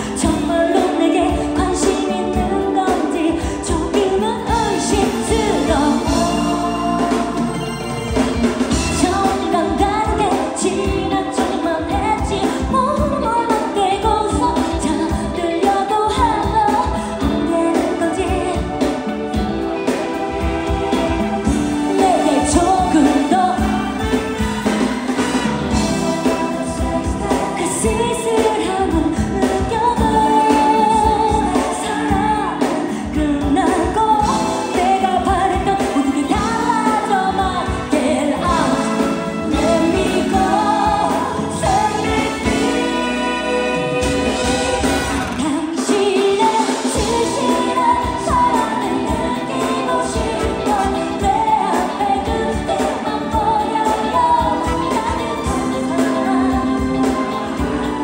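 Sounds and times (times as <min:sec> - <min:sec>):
woman singing into a microphone: 0:00.0 - 0:07.6, 0:08.6 - 0:58.0
band playing over a steady beat: 0:00.0 - 0:58.0.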